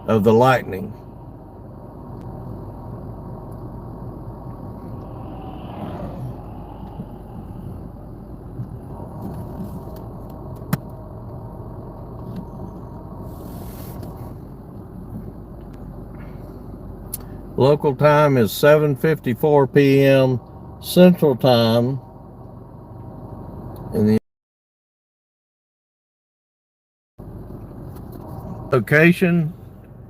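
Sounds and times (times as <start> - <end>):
vehicle rumble: 0.0 - 24.2, 27.2 - 30.0.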